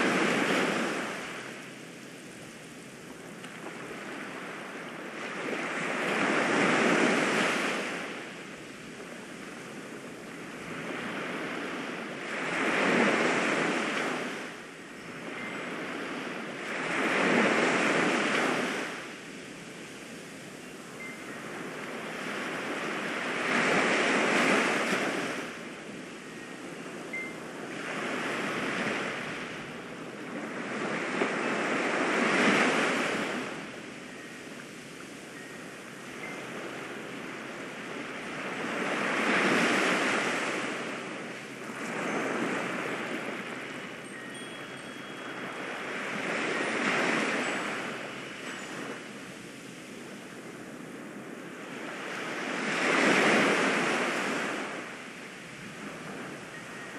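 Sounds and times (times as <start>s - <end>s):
ocean waves washing in: 0.0s - 56.9s.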